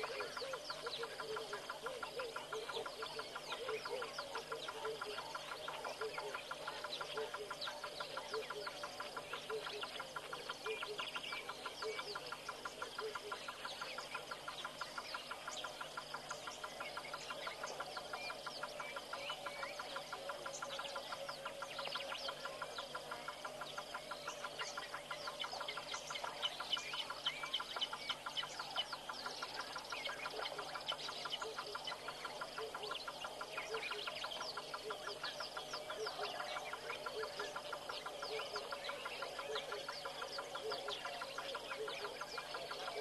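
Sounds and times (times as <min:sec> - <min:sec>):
birds chirping and calling: 0:00.0 - 0:43.0.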